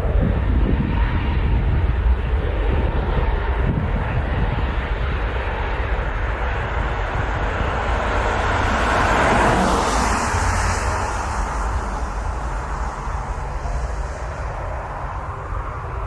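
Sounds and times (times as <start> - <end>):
airliner jet engines roaring: 0.0 - 16.0.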